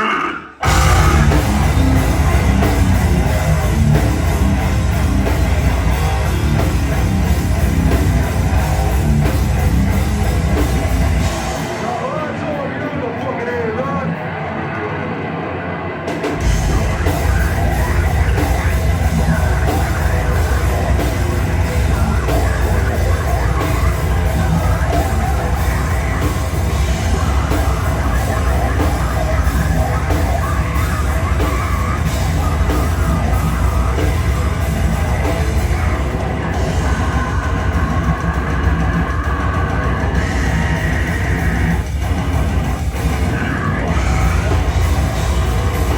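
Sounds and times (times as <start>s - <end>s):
hardcore band playing live: 0.0s - 45.9s
yelled vocals: 0.0s - 45.9s.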